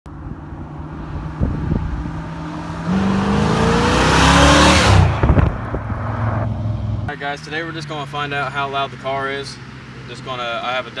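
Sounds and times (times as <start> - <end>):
car engine idling and revving: 0.1 - 11.0.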